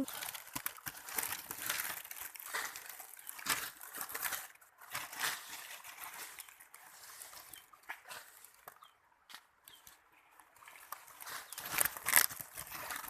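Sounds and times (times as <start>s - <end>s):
dry vegetation rustling: 0.0s - 8.9s, 10.5s - 13.0s.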